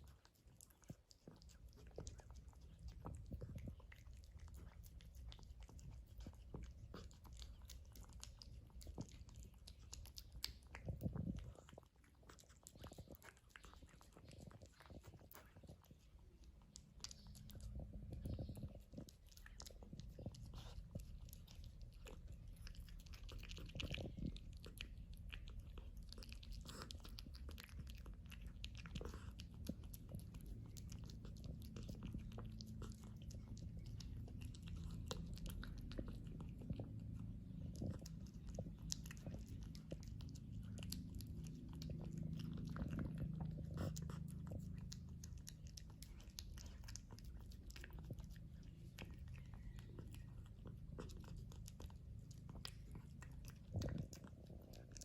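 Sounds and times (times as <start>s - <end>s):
cat chewing wet food: 0.0s - 55.0s.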